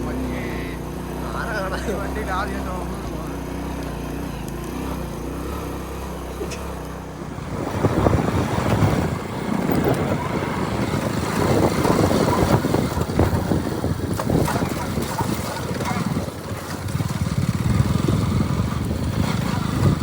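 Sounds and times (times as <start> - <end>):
rough buffeting rumble: 0.0 - 20.0
small motorcycle engine running: 0.0 - 20.0.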